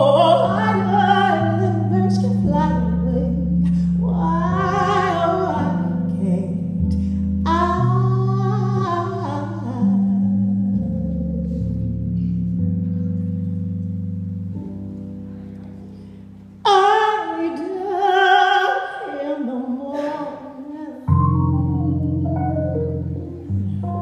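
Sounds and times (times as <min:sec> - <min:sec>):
woman singing ballad: 0:00.0 - 0:12.4, 0:16.6 - 0:24.0
keyboard chords: 0:00.0 - 0:17.4, 0:21.0 - 0:24.0.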